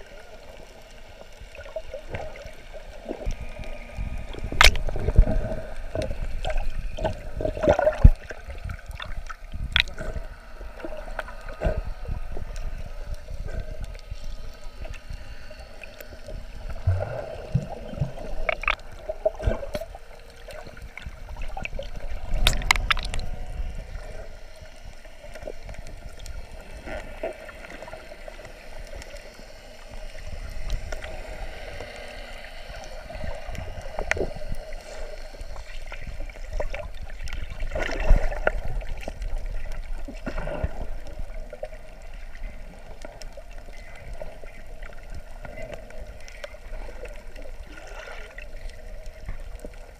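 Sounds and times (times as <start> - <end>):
faint steady hum: 0.0 - 49.9
underwater gurgling water: 0.0 - 49.9.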